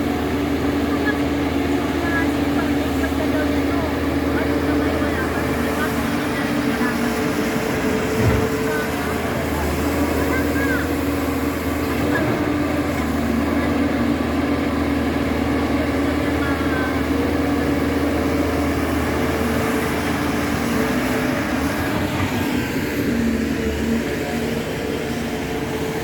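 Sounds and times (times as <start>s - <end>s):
backhoe diesel engine running: 0.0s - 26.0s.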